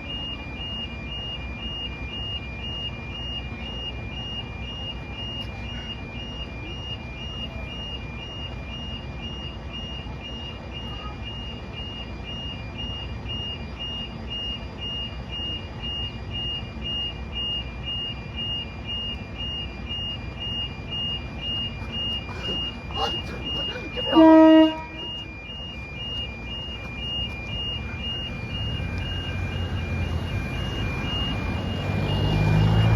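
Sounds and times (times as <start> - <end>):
level crossing two-tone alarm: 0.0 - 32.9.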